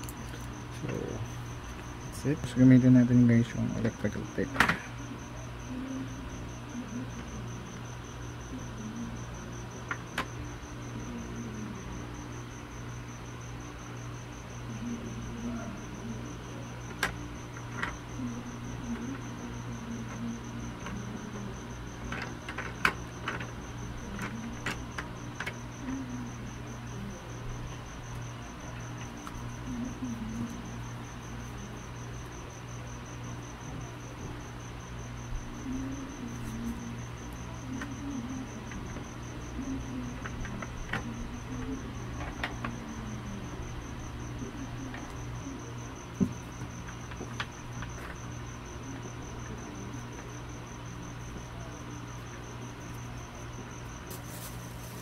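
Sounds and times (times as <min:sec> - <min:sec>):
cricket trilling: 0:00.0 - 0:55.0
low steady hum: 0:00.0 - 0:55.0.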